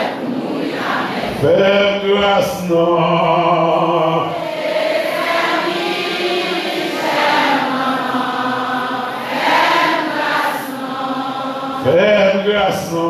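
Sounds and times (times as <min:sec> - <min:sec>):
crowd singing together: 0:00.0 - 0:13.0.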